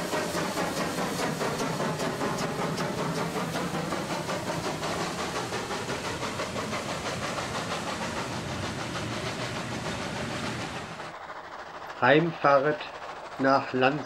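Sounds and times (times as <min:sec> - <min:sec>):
steam hissing: 0:00.0 - 0:14.0
steam locomotive exhaust chuffs: 0:00.0 - 0:14.0.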